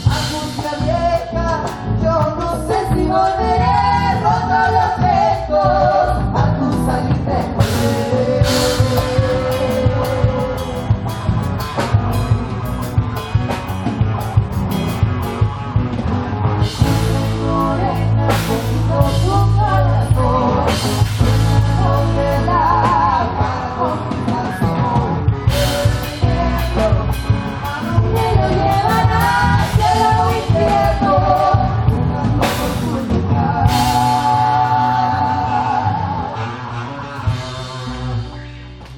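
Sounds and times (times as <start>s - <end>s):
live folk music with drums: 0.0s - 38.9s.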